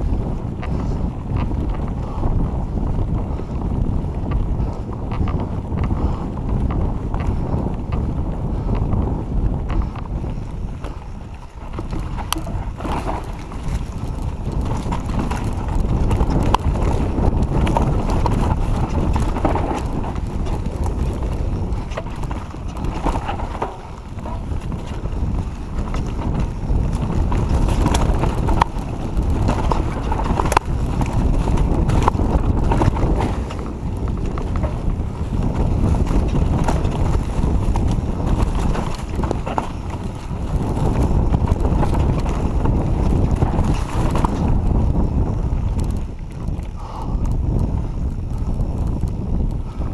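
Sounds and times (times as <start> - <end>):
mountain bike knocks and clatter: 0.0 - 49.9
tyres rumbling on dirt trail: 0.0 - 49.9
wind on microphone: 0.0 - 49.9.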